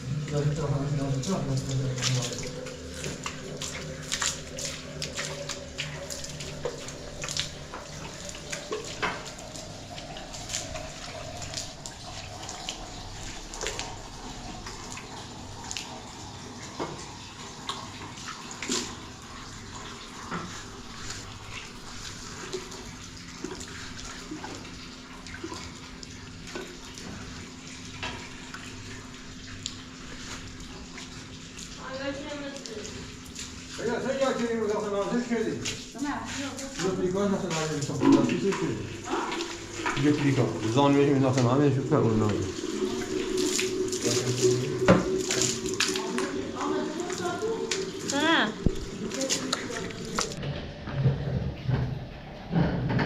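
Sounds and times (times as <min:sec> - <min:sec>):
water running from tap: 0:00.0 - 0:52.0.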